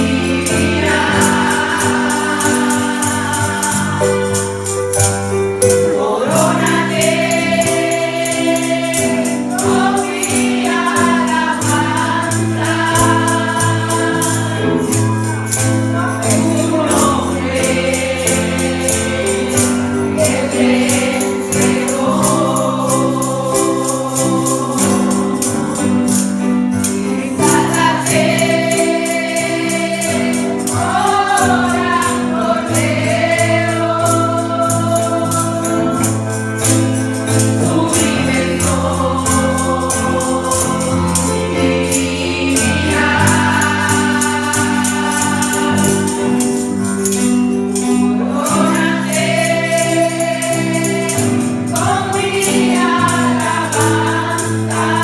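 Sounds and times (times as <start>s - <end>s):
percussion beat: 0.0s - 55.0s
voices singing gospel: 0.0s - 55.0s.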